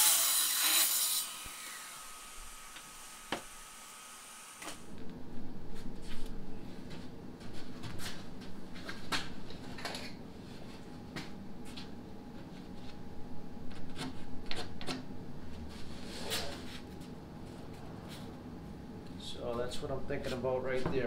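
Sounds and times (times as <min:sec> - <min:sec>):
faint steady hum: 0:01.4 - 0:21.0.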